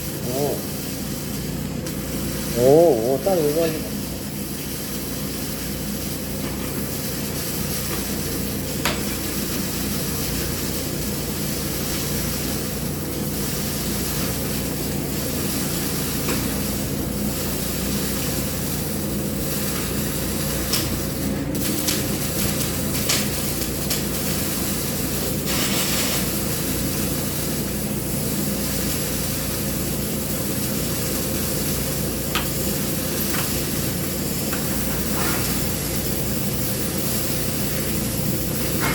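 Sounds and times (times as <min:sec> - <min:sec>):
welding arc hissing: 0:00.0 - 0:38.9.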